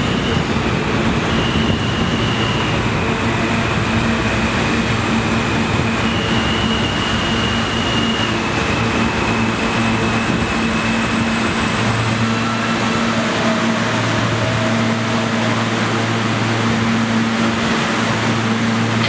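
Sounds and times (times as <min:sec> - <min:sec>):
subway train rumble and hiss: 0:00.0 - 0:19.0.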